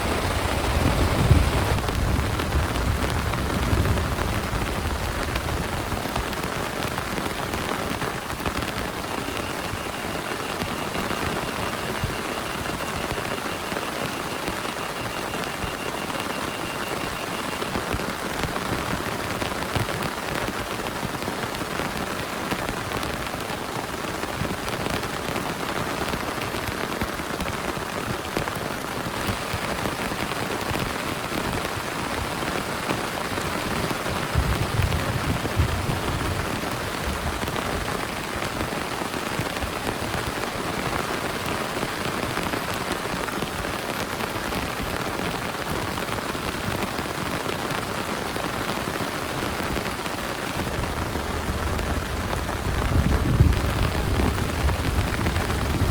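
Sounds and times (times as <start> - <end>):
heavy rain pattering: 0.0 - 55.9.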